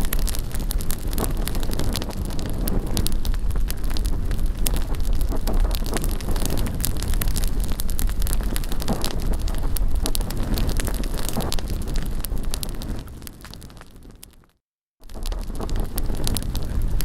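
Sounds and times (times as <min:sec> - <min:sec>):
wind on microphone: 0:00.0 - 0:14.3, 0:15.1 - 0:17.0
bonfire crackling and popping: 0:00.0 - 0:17.0.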